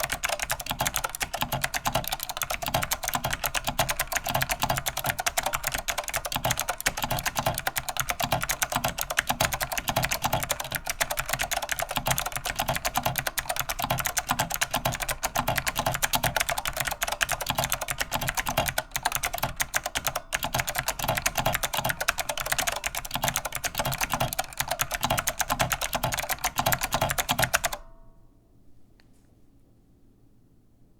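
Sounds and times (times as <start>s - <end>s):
mechanical keyboard typing: 0.0s - 27.8s.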